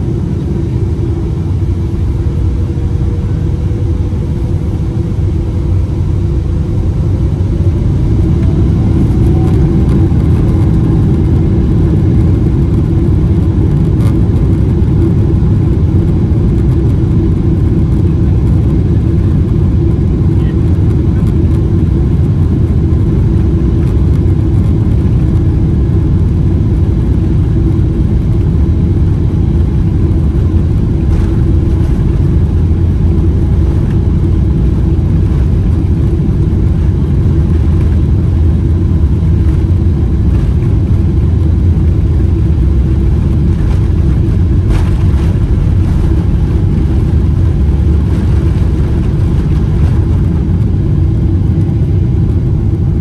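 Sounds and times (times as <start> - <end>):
jet engines low rumble: 0.0 - 53.0.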